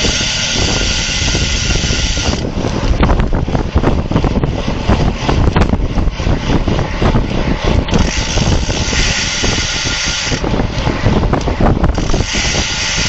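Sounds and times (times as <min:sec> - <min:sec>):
tyre and road rumble: 0:00.0 - 0:13.0
wind buffeting microphone: 0:00.0 - 0:13.0.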